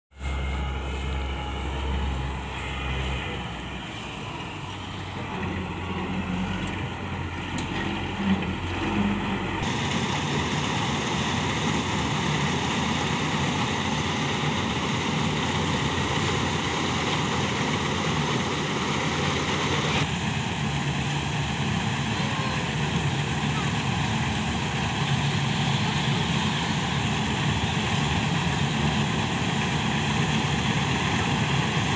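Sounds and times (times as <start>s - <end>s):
combine harvester running: 0.1s - 31.9s.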